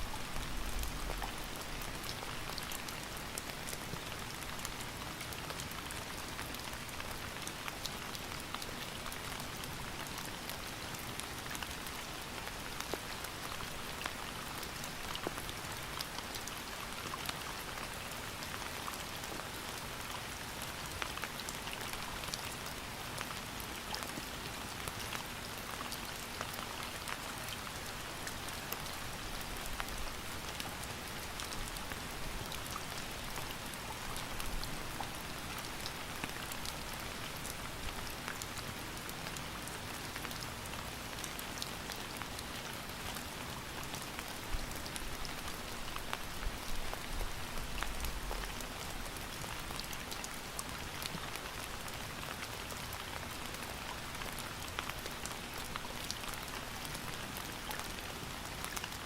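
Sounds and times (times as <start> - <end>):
raindrops pattering: 0.0 - 59.0
steady rain falling: 0.0 - 59.0.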